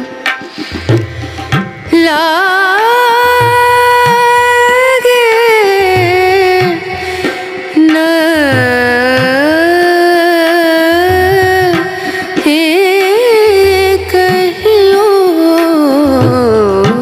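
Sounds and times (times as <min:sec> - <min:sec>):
slow drum beat: 0:00.0 - 0:17.0.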